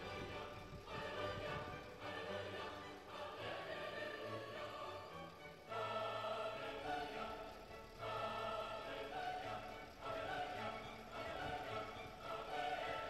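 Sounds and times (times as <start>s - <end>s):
slow sustained orchestral chords: 0.0s - 13.0s.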